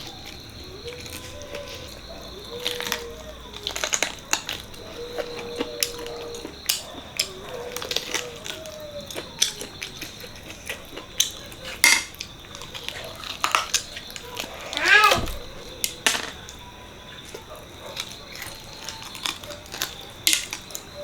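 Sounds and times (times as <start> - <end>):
chewing sounds: 0.0 - 16.0, 17.2 - 21.0.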